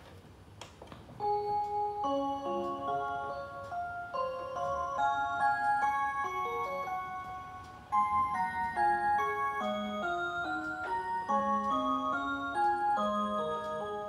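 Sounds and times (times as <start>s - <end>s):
musical clock bell-like tune: 1.2s - 14.0s.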